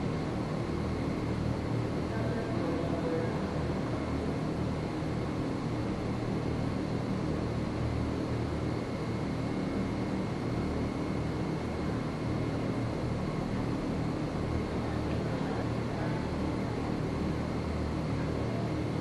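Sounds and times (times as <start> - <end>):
faint high whine: 0.0 - 19.0
indoor arena rumble and hiss: 0.0 - 19.0.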